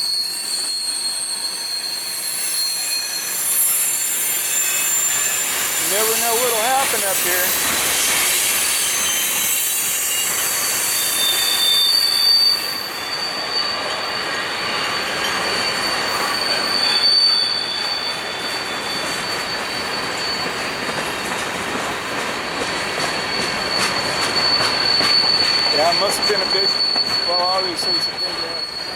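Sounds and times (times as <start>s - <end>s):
freight train rolling: 0.0s - 28.9s
rhythmic train clatter: 0.0s - 28.9s
train wheels squealing: 0.0s - 28.9s.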